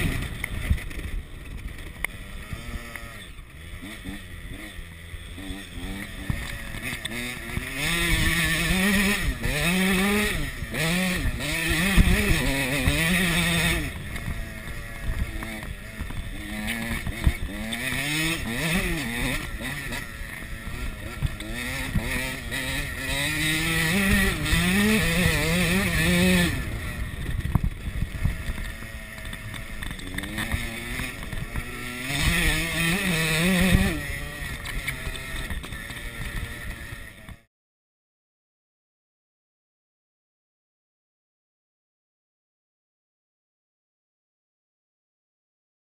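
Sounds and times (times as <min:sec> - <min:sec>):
dirt bike engine revving: 0:00.0 - 0:37.5.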